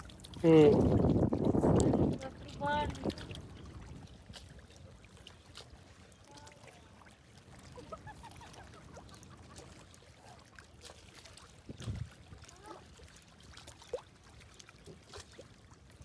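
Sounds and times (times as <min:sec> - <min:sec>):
water lapping against rocks: 0:00.0 - 0:16.0.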